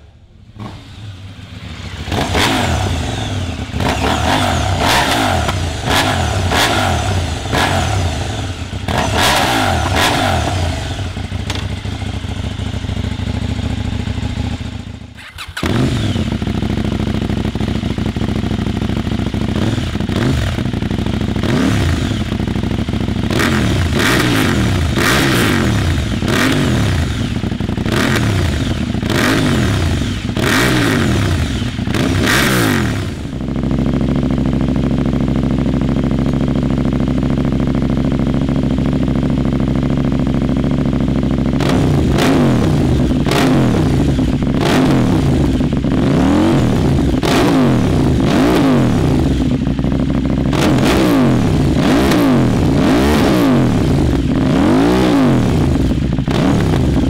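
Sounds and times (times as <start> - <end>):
motorcycle engine idling: 0.0 - 57.0
motorcycle engine revving: 0.0 - 57.0.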